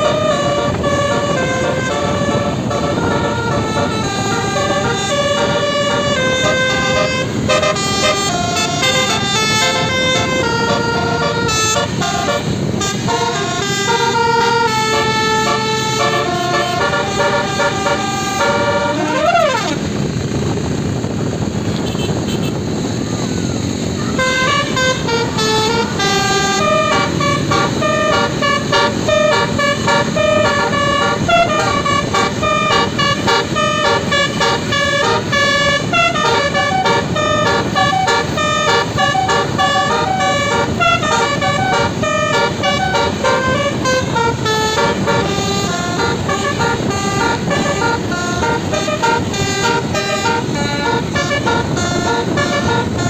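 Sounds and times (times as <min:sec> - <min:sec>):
bus air horn playing melody: 0:00.0 - 0:20.2, 0:21.7 - 0:22.8, 0:23.8 - 0:53.0.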